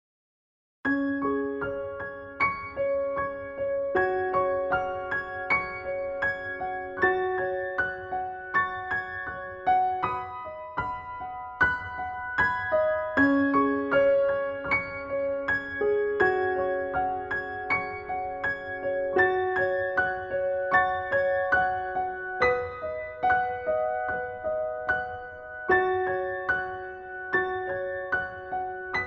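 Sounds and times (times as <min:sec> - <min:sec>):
gentle keyboard melody: 0:00.9 - 0:29.0.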